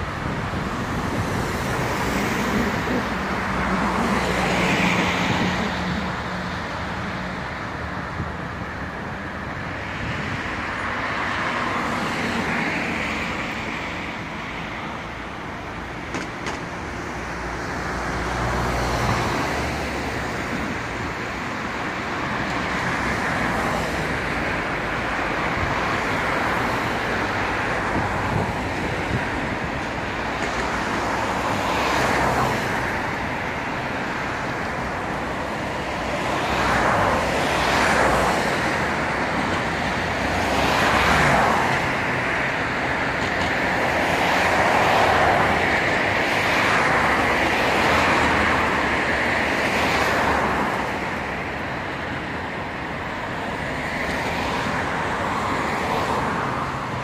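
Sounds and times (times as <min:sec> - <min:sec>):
hum of city traffic: 0:00.0 - 0:57.0
vehicles passing close by: 0:00.0 - 0:57.0.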